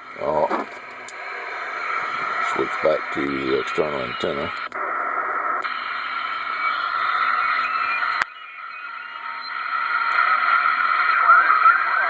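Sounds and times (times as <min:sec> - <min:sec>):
radio static and garbled chatter: 0:00.0 - 0:12.0
warbling squawking radio signals: 0:00.1 - 0:12.0.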